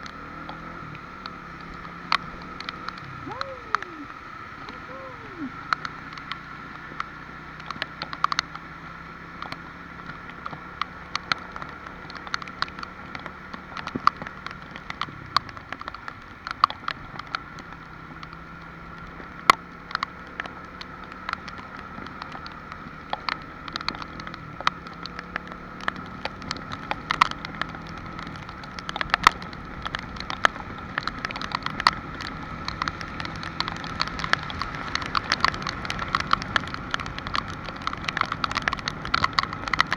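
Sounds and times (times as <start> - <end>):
rain patter: 0.0 - 39.9
raindrops ticking close by: 0.0 - 39.9.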